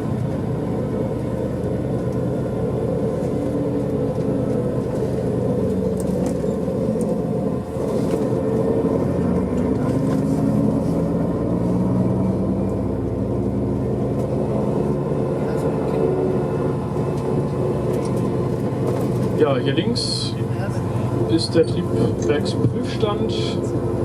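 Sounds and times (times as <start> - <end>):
road and tyre noise: 0.0 - 24.0
vehicle engine running: 0.0 - 24.0.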